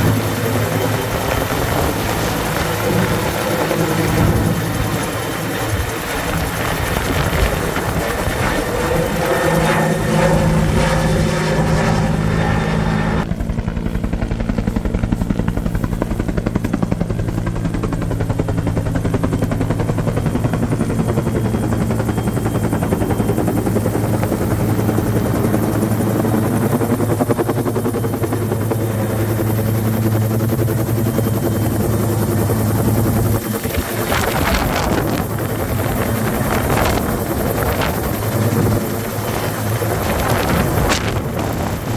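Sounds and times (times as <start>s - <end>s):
helicopter rotor beat and engine: 0.0s - 41.9s.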